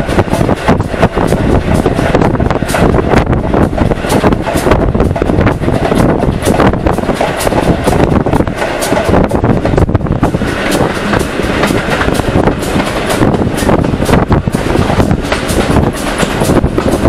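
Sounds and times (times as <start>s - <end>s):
steam locomotive rumbling and chuffing: 0.0s - 17.0s.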